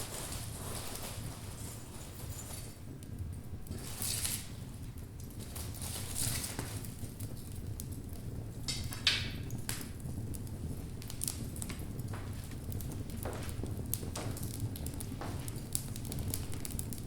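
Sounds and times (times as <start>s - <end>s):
wood logs burning: 0.0s - 17.0s.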